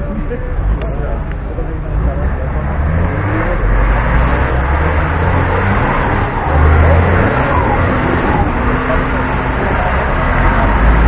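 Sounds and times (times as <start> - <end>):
off-road engines running: 0.0 - 11.0.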